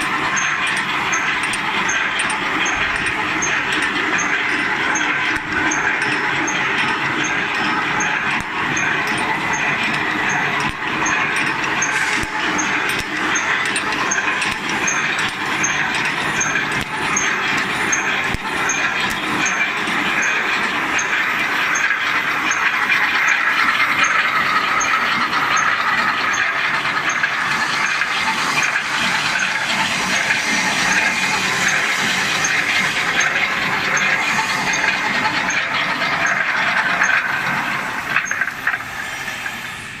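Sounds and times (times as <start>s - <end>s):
wire mesh machine hiss and clatter: 0.0s - 40.0s.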